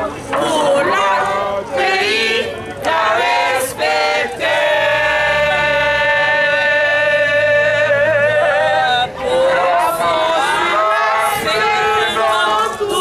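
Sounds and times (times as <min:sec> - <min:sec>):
crowd singing together: 0:00.0 - 0:13.0.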